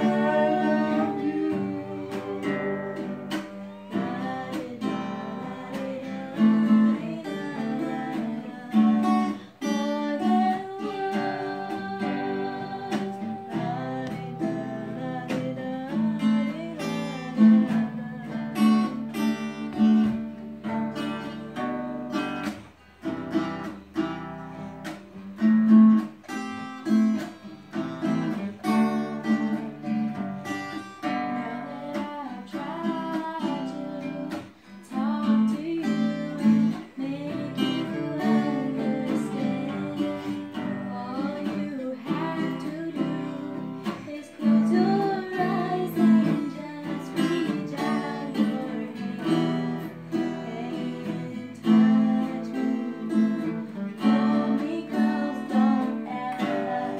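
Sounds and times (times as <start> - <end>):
young woman singing: 0.0 - 22.7, 26.6 - 56.9
acoustic guitars playing: 0.0 - 56.9.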